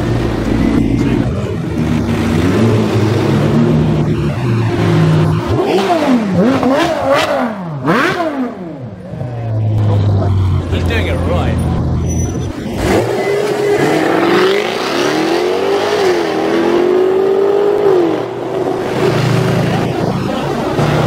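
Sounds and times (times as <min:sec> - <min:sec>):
car engines idling: 0:00.0 - 0:21.0
car engine revving hard: 0:00.1 - 0:08.8, 0:12.6 - 0:21.0.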